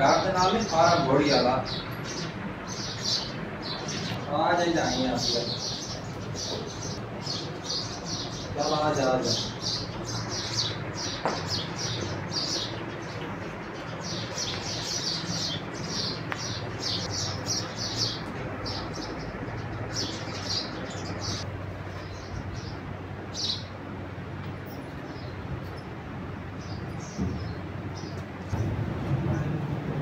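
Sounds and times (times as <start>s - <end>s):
small birds chirping: 0.0s - 29.5s.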